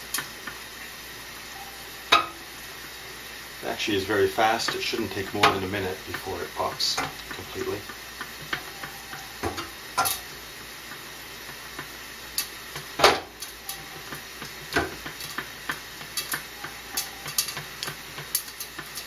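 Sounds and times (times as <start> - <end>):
popcorn popping: 0.0 - 1.5, 2.1 - 19.0
low oil sizzle: 0.0 - 19.0.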